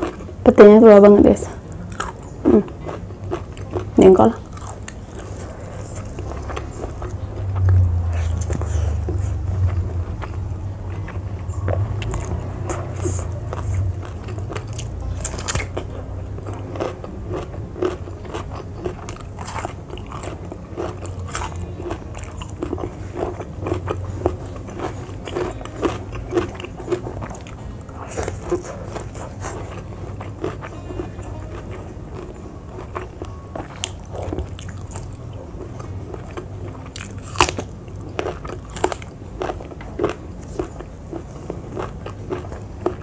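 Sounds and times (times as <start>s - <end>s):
crunchy biting and chewing: 0.0s - 0.4s, 1.5s - 43.0s
steady low hum: 0.0s - 43.0s.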